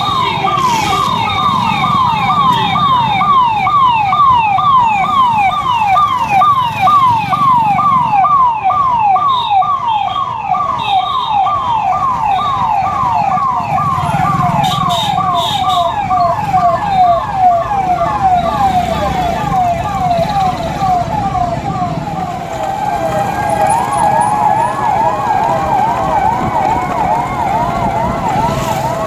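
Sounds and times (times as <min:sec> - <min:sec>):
police siren yelping: 0:00.0 - 0:29.0.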